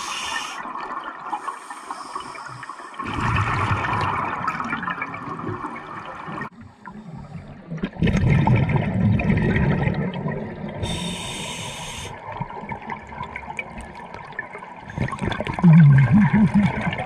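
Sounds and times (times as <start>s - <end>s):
regulator bubbles underwater: 0.1s - 17.0s.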